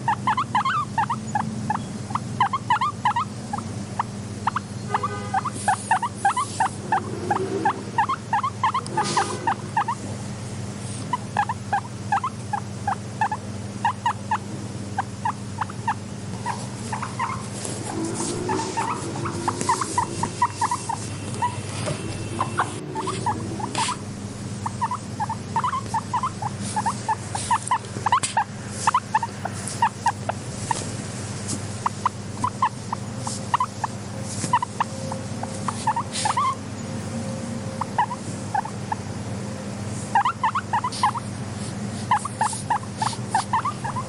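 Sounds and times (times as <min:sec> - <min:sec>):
guinea pig squeals: 0:00.0 - 0:10.1, 0:10.9 - 0:30.9, 0:31.8 - 0:44.0
guinea pigs squeaking: 0:00.0 - 0:10.1, 0:10.7 - 0:44.0
steady low hum: 0:00.0 - 0:44.0.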